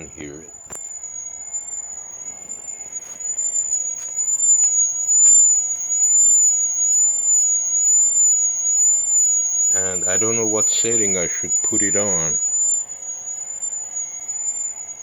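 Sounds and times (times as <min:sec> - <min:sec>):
steady high-pitched tone: 0:00.0 - 0:15.0.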